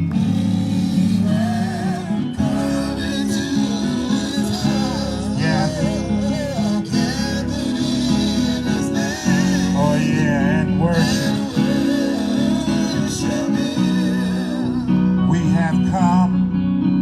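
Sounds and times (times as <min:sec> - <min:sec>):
church worship music with guitar: 0:00.0 - 0:17.0.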